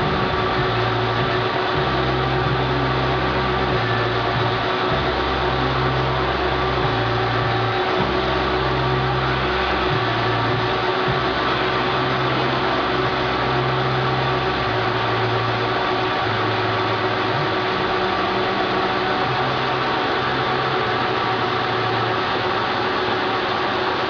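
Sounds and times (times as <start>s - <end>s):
low hum: 0.0s - 24.0s
printing press mechanical whir: 0.0s - 24.0s.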